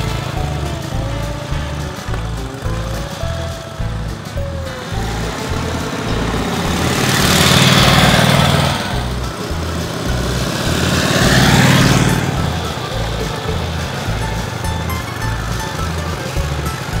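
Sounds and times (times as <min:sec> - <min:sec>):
motorcycle engine passing by: 0:00.0 - 0:17.0.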